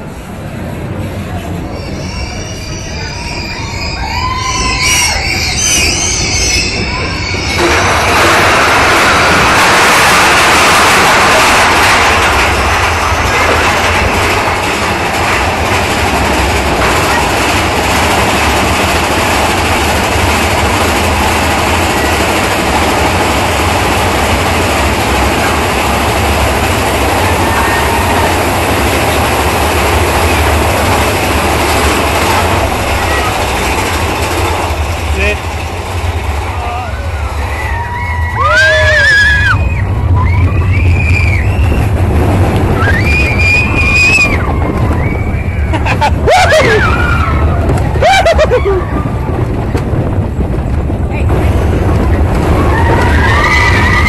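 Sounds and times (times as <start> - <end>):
roller coaster wheels rumbling on rail: 0.0 - 54.0
high drawn-out squeals: 1.4 - 23.6, 24.3 - 35.5, 36.5 - 42.1, 42.7 - 49.2, 52.4 - 54.0.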